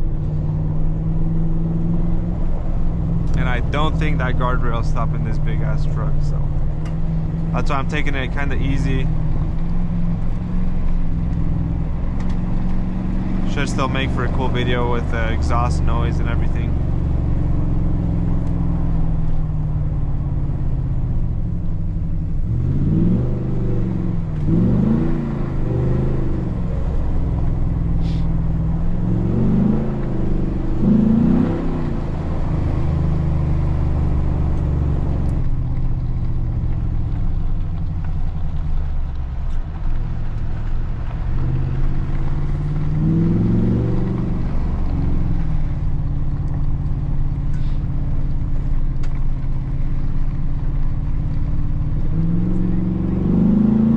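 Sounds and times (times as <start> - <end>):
truck engine revving while driving: 0.0 - 53.9.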